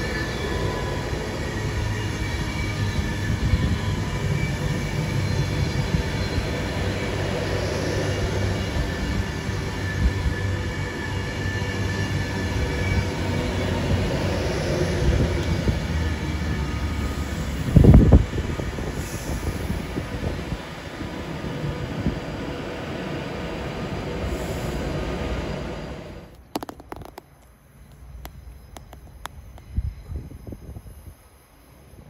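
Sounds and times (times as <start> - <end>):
passing train rumble: 0.0 - 32.0.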